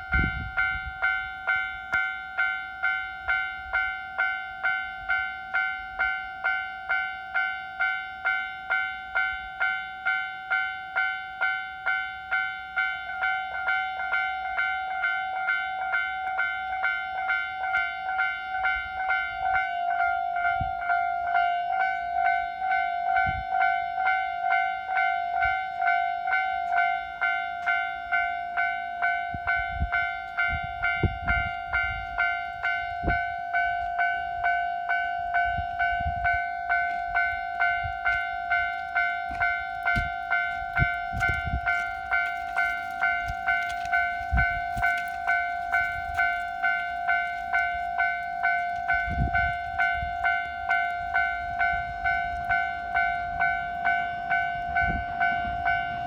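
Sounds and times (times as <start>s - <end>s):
level crossing alarm ringing: 0.0s - 56.0s
train rumbling over crossing: 0.0s - 56.0s.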